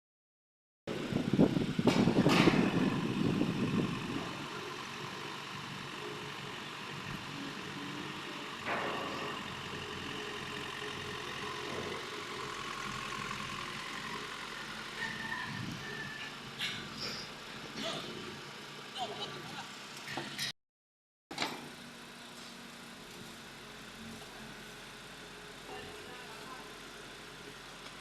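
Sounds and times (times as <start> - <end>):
excavator engine running: 0.9 - 20.5, 21.4 - 28.0.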